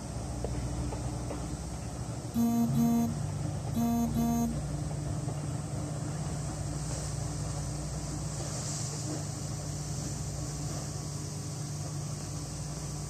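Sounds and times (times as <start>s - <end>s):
distant train engine hum: 0.0s - 13.0s.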